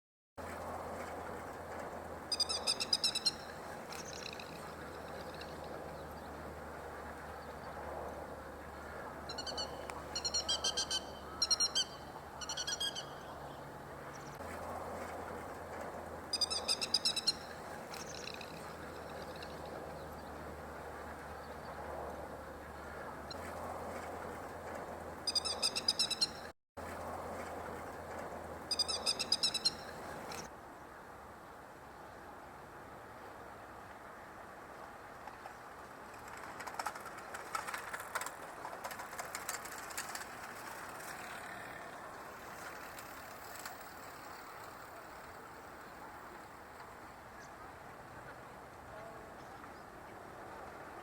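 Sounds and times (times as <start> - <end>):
steady background noise: 0.4 - 51.0.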